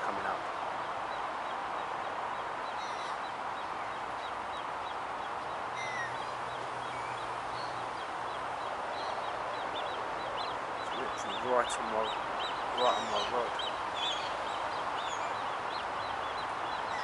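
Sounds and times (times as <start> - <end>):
steady outdoor hiss: 0.0 - 17.0
faint bird chirps: 1.0 - 17.0.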